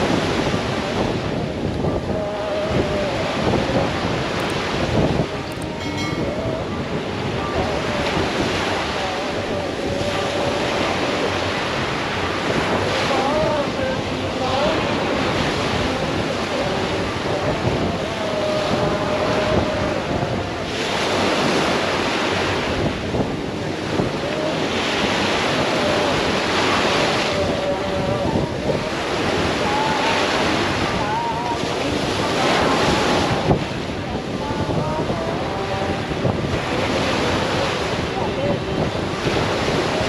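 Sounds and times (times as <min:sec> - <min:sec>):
small waves breaking on beach: 0:00.0 - 0:40.0.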